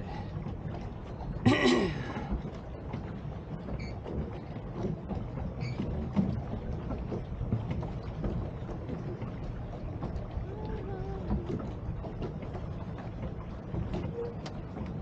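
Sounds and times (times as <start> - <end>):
water sloshing around boat: 0.0 - 15.0.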